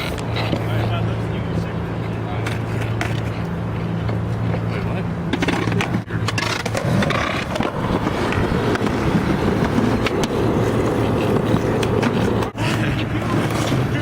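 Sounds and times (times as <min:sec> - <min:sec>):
skateboard wheels rumbling: 0:00.0 - 0:14.0
skateboard clacks: 0:02.0 - 0:14.0.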